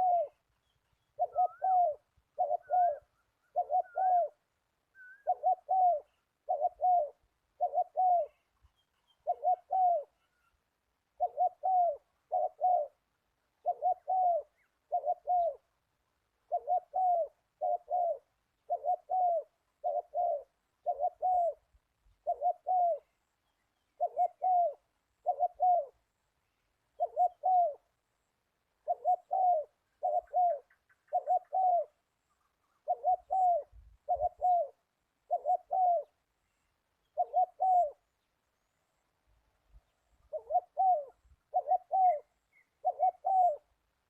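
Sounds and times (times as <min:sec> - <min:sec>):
dove cooing: 0:00.0 - 0:10.5, 0:11.1 - 0:15.7, 0:16.4 - 0:23.2, 0:24.0 - 0:26.0, 0:26.9 - 0:28.0, 0:28.8 - 0:36.2, 0:37.0 - 0:38.2, 0:40.2 - 0:43.8.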